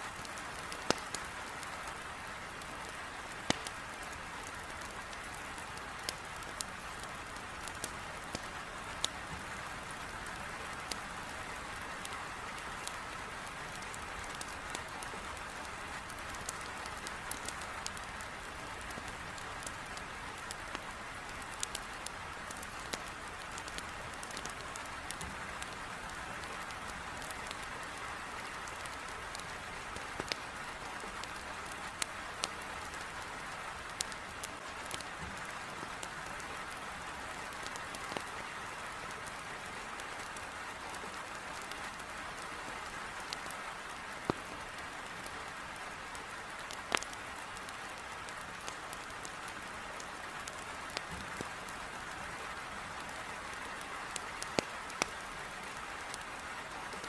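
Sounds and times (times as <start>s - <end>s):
wood fire crackling: 0.1s - 57.0s.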